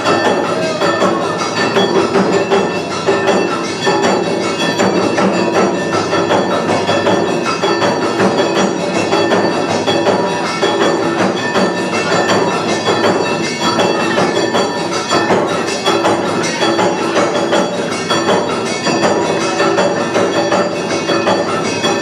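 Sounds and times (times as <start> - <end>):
percussion festival dance music: 0.0 - 22.0.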